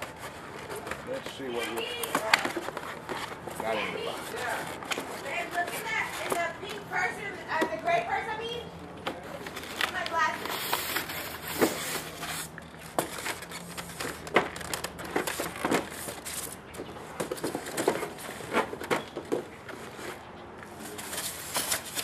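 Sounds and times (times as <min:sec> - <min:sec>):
cardboard and foam packaging handled: 0:00.0 - 0:08.1, 0:09.1 - 0:22.0.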